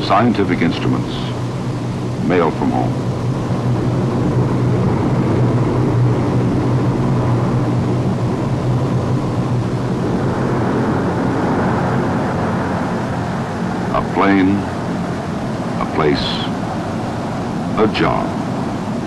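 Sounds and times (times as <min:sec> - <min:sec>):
turboprop engines humming: 0:00.0 - 0:19.0.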